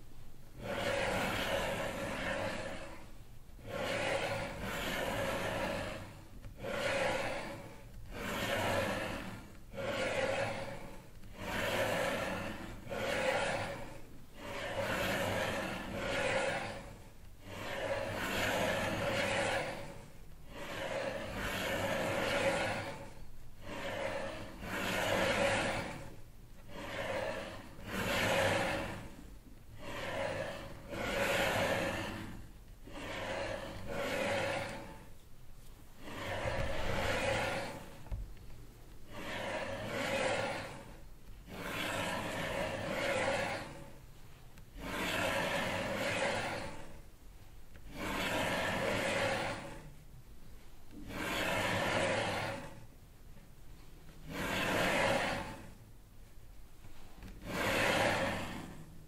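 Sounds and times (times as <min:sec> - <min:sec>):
slow regular breathing: 0:00.0 - 0:59.0.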